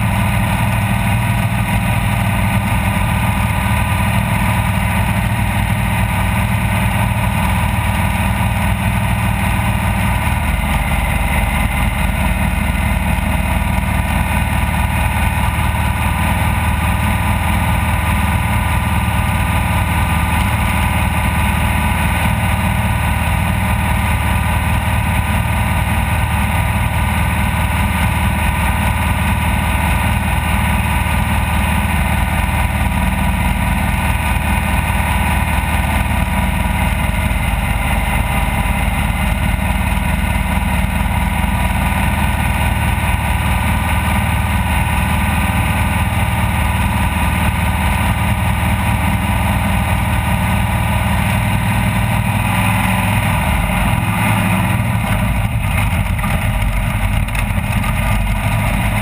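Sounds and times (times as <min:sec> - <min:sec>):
race vehicle engine running: 0:00.0 - 0:59.0.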